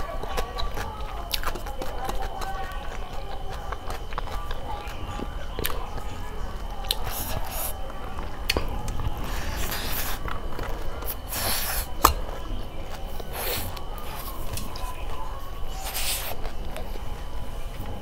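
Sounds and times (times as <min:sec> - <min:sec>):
fingers squishing rice and curry: 0:00.0 - 0:18.0
wet mouth eating sounds: 0:00.0 - 0:18.0.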